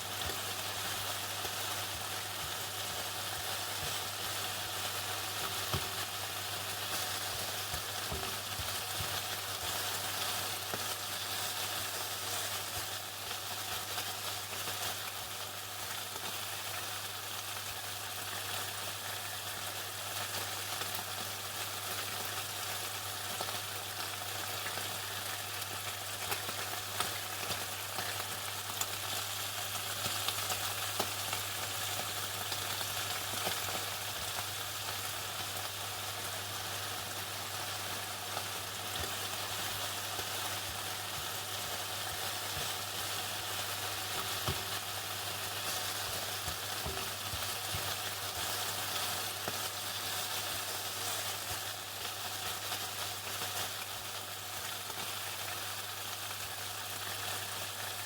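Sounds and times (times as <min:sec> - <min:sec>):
chicken frying in hot oil: 0:00.0 - 0:58.0
low fryer hum: 0:00.0 - 0:58.0.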